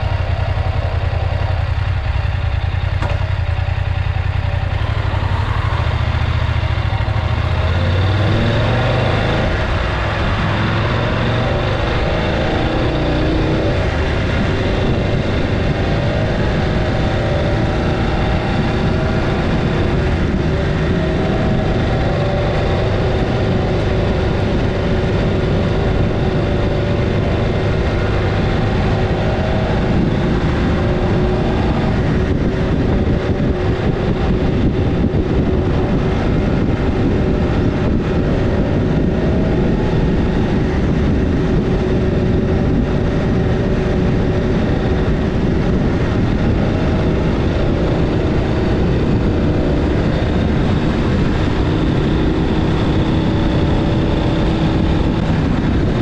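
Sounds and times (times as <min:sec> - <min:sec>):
motorcycle engine: 0:00.0 - 0:56.0
road noise: 0:00.0 - 0:56.0
rushing wind: 0:00.0 - 0:56.0.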